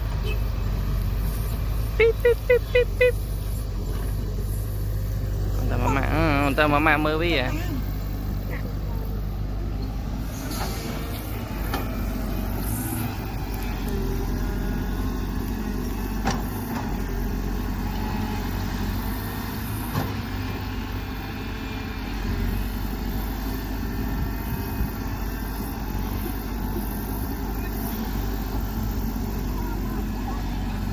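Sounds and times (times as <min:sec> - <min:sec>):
excavator engine humming: 0:00.0 - 0:30.9.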